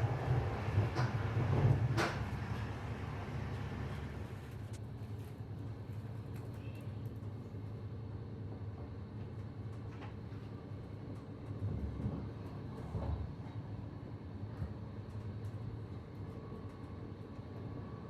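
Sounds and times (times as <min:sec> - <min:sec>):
train rumbling: 0:00.0 - 0:07.6, 0:08.4 - 0:18.0.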